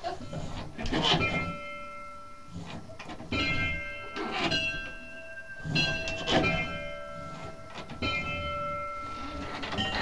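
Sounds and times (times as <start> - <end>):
church bells ringing: 0.2 - 10.0.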